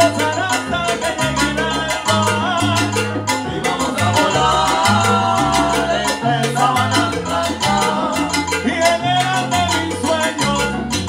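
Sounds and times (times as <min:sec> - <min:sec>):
live salsa band playing: 0:00.0 - 0:11.0.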